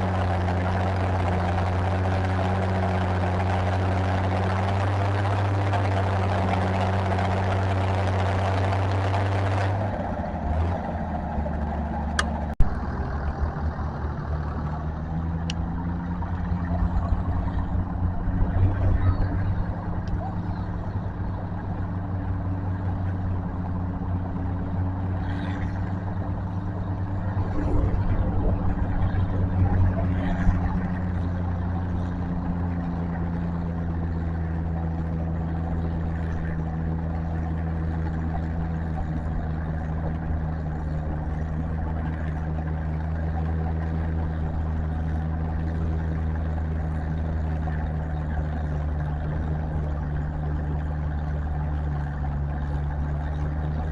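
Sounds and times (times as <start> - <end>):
tractor engines roaring: 0.0 - 53.9.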